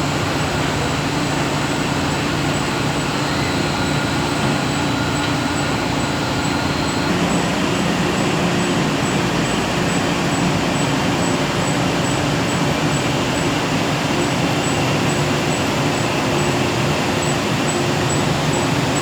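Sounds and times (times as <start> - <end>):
furnace mechanical drone: 0.0 - 19.0.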